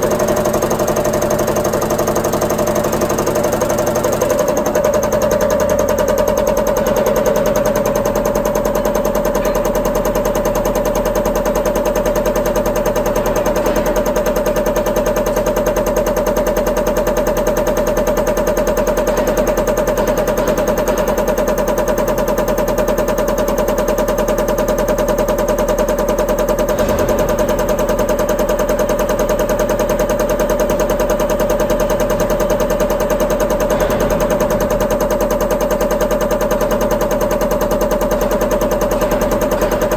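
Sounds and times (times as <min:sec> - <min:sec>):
constant machine tone: 0:00.0 - 0:39.9
fast mechanical clatter: 0:00.0 - 0:39.9.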